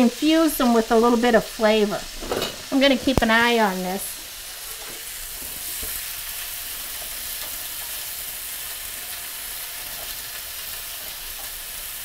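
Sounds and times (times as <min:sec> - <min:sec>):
bread sizzling in oil: 0:00.0 - 0:12.0.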